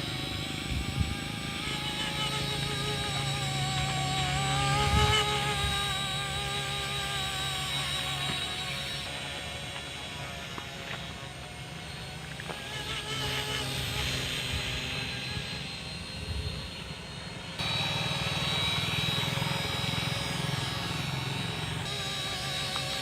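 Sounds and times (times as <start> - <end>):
helicopter engine and rotor: 0.0 - 23.0.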